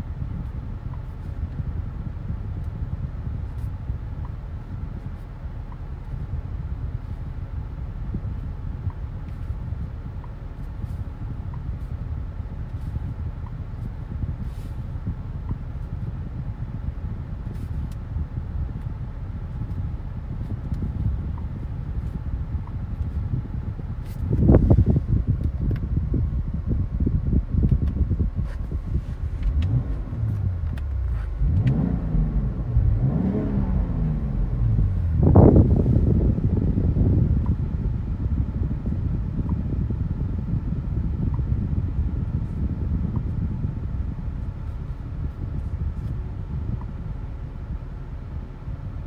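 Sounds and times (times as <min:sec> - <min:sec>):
car driving low rumble: 0:00.0 - 0:49.0.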